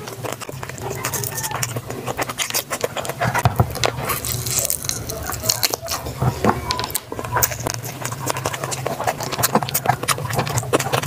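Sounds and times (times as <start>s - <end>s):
chewing and lip-smacking: 0.0s - 11.0s.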